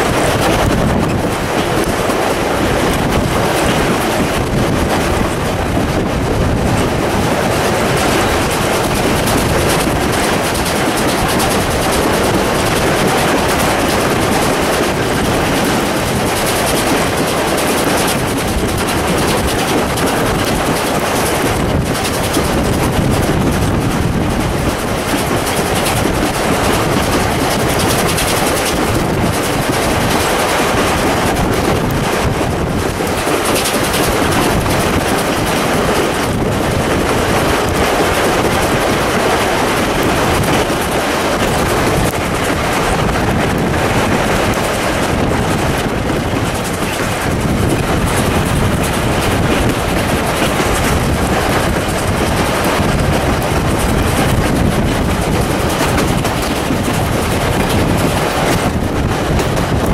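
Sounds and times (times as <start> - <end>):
rush of moving train: 0.0 - 59.9
steam locomotive exhaust beating: 0.0 - 59.9.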